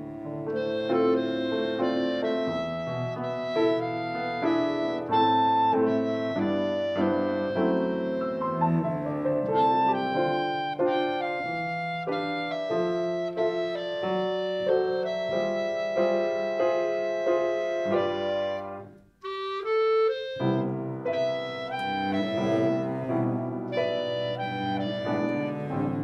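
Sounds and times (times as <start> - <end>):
cello: 0.0 - 18.8, 20.1 - 26.0
clarinet: 0.0 - 26.0
piano: 0.0 - 26.0.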